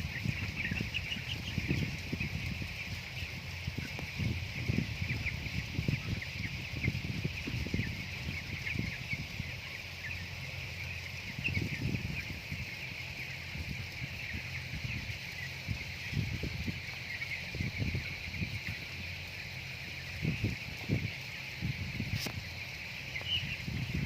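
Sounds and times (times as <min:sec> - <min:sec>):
chickens cheeping: 0:00.0 - 0:24.0.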